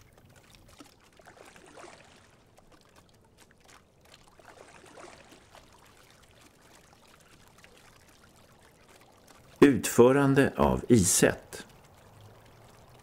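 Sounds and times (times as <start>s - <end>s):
water lapping along boat hull: 0.0s - 13.0s.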